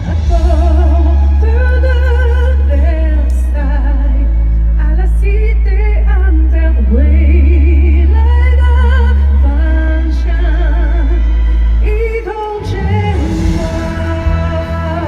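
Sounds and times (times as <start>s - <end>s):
heavy bass backing: 0.0s - 15.0s
woman singing with vibrato: 0.0s - 15.0s.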